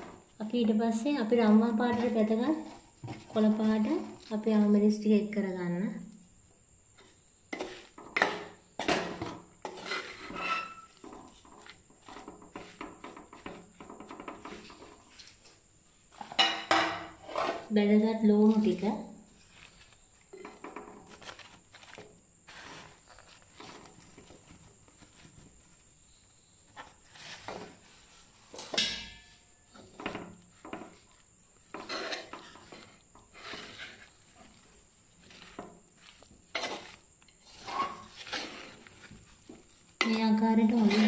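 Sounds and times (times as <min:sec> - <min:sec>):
wooden spatula scraping clay pot: 0:00.0 - 0:05.4, 0:07.0 - 0:17.8, 0:18.4 - 0:28.9, 0:29.6 - 0:41.0.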